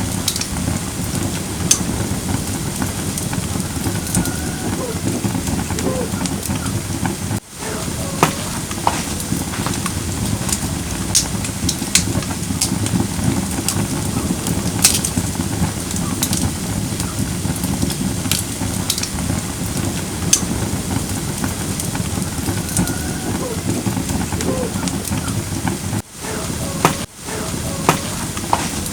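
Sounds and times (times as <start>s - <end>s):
burning logs crackling and popping: 0.0s - 28.9s
fire flames rushing: 0.0s - 28.9s.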